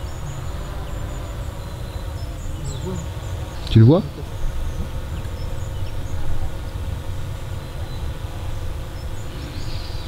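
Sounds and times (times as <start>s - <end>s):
drone propellers buzzing: 0.0s - 10.0s
low uneven rumble: 0.0s - 10.0s.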